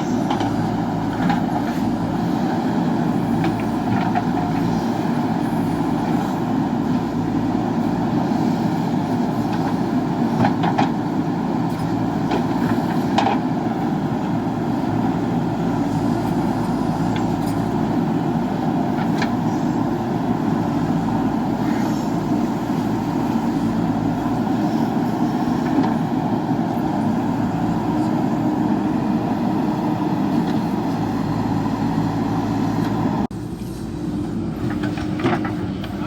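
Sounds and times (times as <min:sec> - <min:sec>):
diesel engine running under load: 0:00.0 - 0:36.0.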